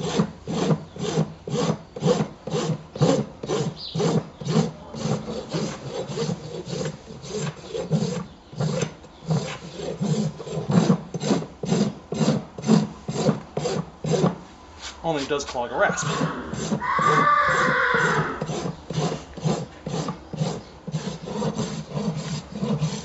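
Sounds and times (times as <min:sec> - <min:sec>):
rasp scraping hoof wall: 0:00.0 - 0:23.0.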